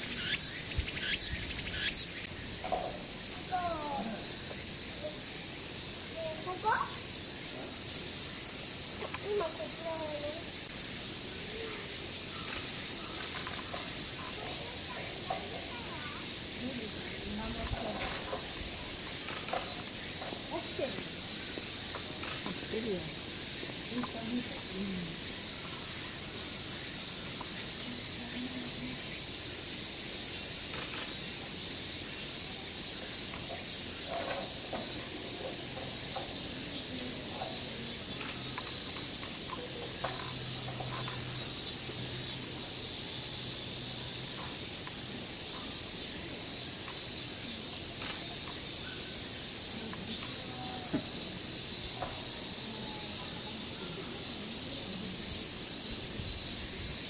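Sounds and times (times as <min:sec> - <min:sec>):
cicadas chorus: 0:00.0 - 0:57.0.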